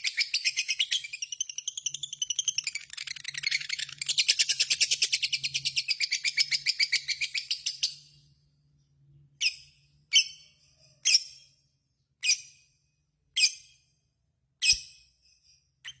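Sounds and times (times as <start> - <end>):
sharp bird chirps: 0.0 - 8.3, 9.3 - 16.0.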